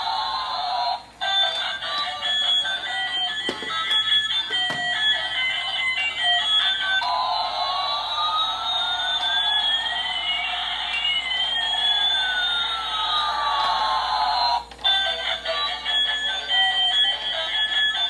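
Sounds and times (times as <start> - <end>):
siren-like toy sound effect: 0.0 - 18.0.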